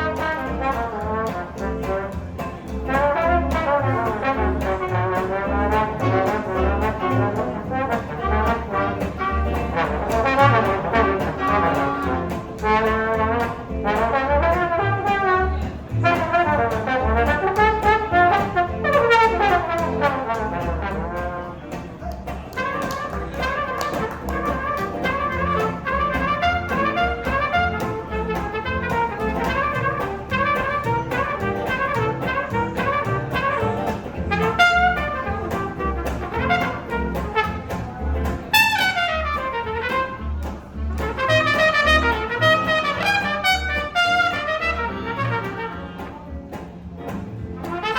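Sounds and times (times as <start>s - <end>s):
jazz band with brass: 0.0s - 47.9s.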